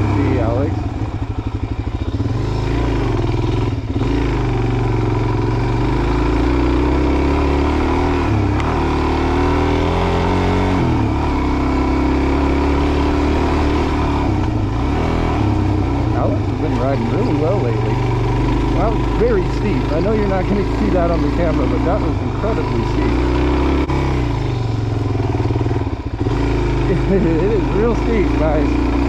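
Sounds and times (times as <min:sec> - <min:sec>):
motorcycle engine revving under load: 0:00.0 - 0:29.0.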